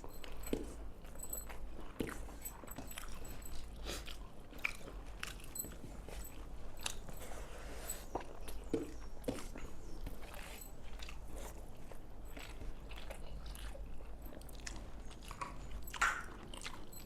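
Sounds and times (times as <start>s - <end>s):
people chewing and crunching: 0.0s - 17.0s.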